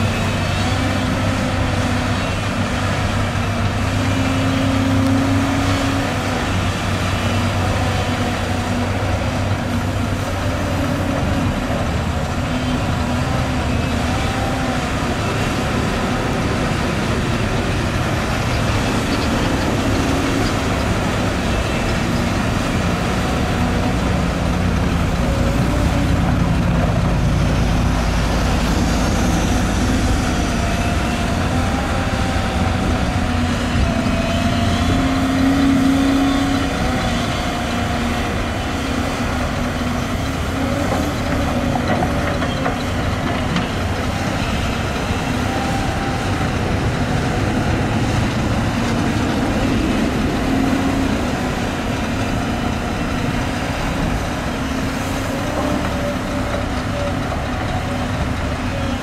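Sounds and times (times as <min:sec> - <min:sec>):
excavator diesel engine rumble: 0:00.0 - 0:59.0.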